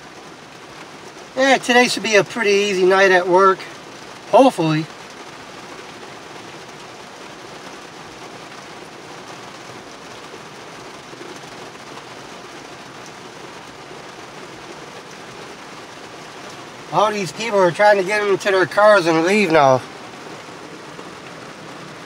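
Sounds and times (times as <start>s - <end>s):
heavy rain on a truck: 0.0s - 22.0s.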